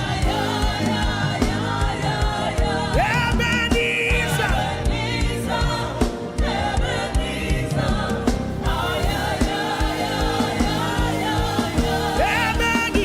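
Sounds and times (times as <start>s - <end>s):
choir singing gospel: 0.0s - 13.0s
live band with drum beat: 0.0s - 13.0s.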